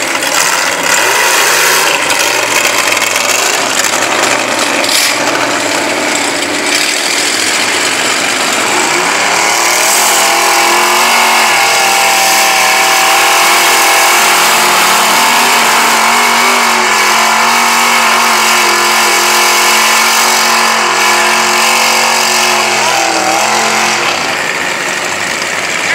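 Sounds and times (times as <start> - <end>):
truck engine running hard: 0.0 - 25.9.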